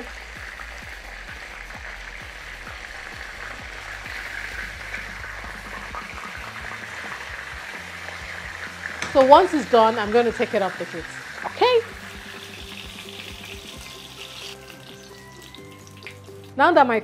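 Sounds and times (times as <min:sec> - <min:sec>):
fish frying in oil: 0:00.0 - 0:16.7.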